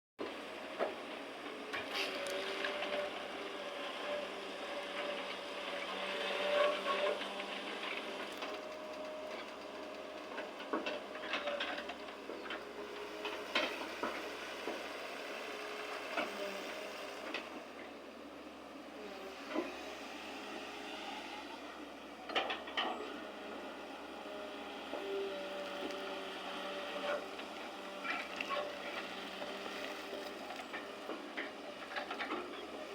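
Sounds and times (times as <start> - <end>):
excavator mechanical whine: 0.2 - 32.9.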